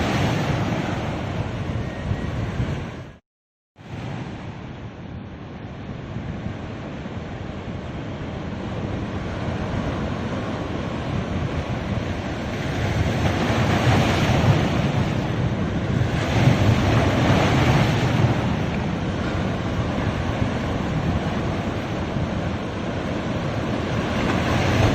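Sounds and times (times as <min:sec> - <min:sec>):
ocean surf breaking on beach: 0:00.0 - 0:03.1, 0:03.8 - 0:24.9
wind buffeting microphone: 0:00.0 - 0:03.2, 0:03.9 - 0:24.9.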